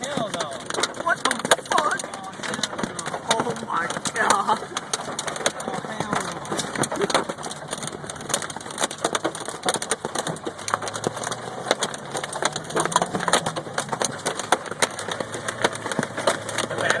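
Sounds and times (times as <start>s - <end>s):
hailstones hitting a car: 0.0s - 17.0s.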